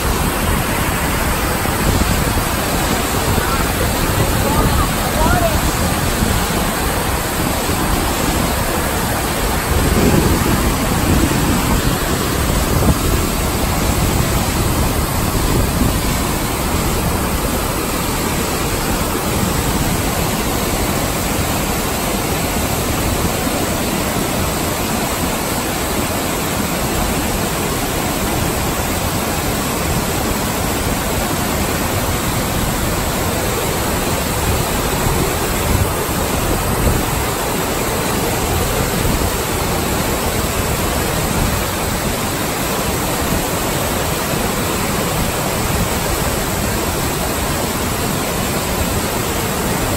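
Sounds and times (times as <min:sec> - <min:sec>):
waterfall rushing over rock: 0:00.0 - 0:49.9.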